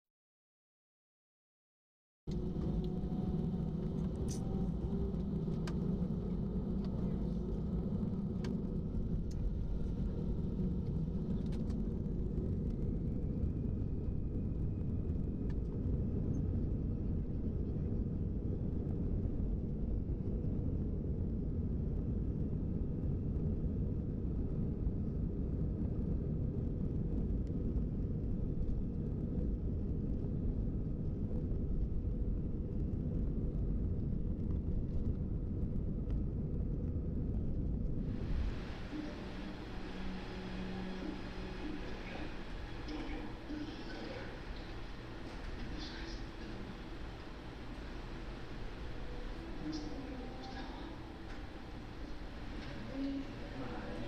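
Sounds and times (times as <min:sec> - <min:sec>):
steady low rumble: 0:02.3 - 0:54.0.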